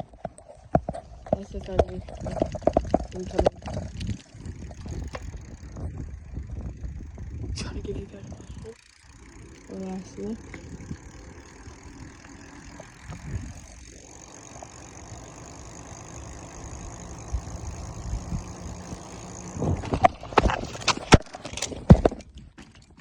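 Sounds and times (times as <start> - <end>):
wind on microphone: 0.0 - 8.8, 9.6 - 14.0, 16.2 - 22.6.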